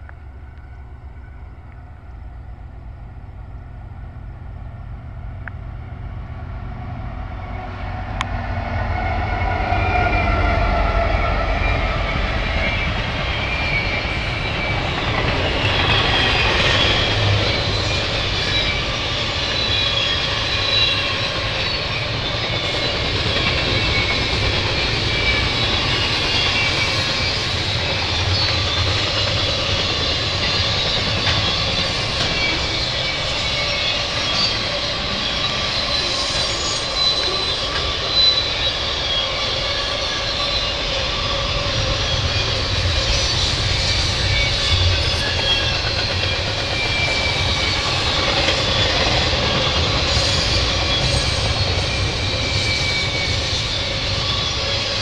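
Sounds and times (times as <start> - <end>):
diesel locomotives: 0.0 - 55.0
train wheels rumbling on rails: 0.0 - 55.0.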